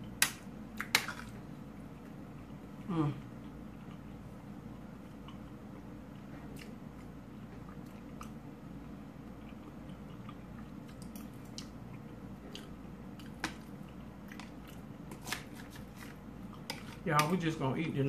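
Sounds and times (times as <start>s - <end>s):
person chewing food: 0.0s - 17.3s
low steady hum: 0.0s - 18.0s.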